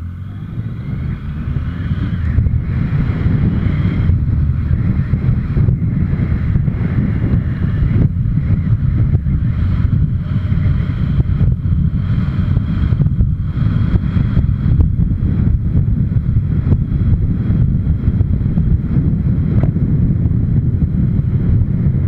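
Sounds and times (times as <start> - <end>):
motorcycle running: 0.0 - 22.0
wind rush on microphone: 0.0 - 22.0.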